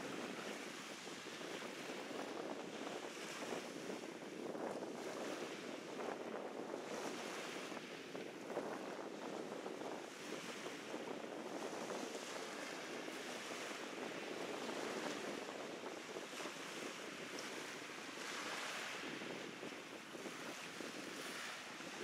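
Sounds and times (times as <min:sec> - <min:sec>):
wind blowing across microphone: 0:00.0 - 0:22.0.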